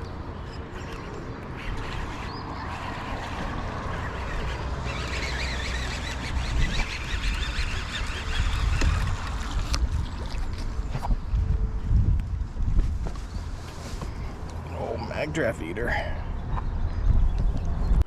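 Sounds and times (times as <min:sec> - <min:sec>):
wind rumbling on microphone: 0:00.0 - 0:14.8, 0:16.2 - 0:18.0.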